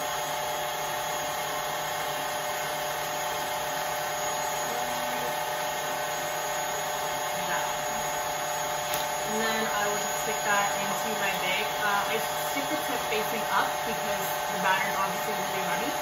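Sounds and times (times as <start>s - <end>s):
stand mixer motor whining: 0.0s - 16.0s.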